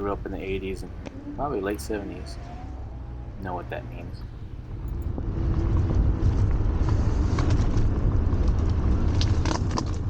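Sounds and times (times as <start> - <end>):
electric scooter road noise: 0.0 - 10.0
wind rumbling on microphone: 0.0 - 10.0.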